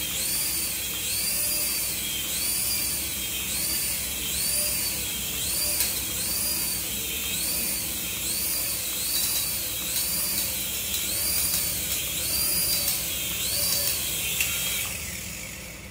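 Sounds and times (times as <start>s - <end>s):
toy helicopter rotors whining: 0.0s - 15.9s.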